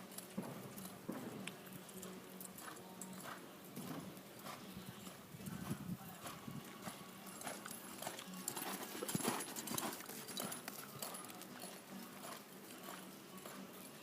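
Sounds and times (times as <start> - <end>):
horse hoofbeats: 0.0 - 14.0.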